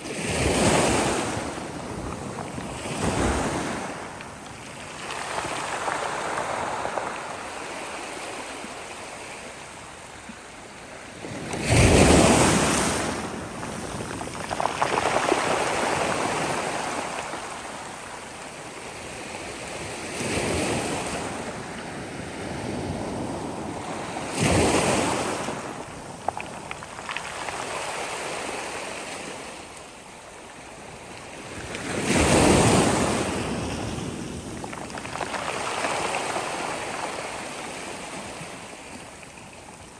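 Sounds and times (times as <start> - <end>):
surf washing: 0.0 - 9.7, 11.3 - 29.7, 31.4 - 39.9
sea waves crashing on shore: 0.0 - 39.9.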